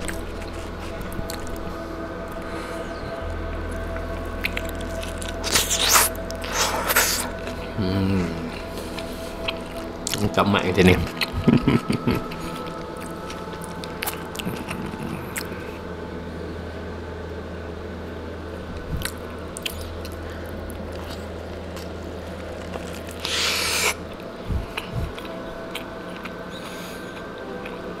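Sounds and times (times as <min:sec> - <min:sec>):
faint chewing: 0:00.0 - 0:15.8, 0:18.8 - 0:28.0
steady low hum: 0:00.0 - 0:28.0.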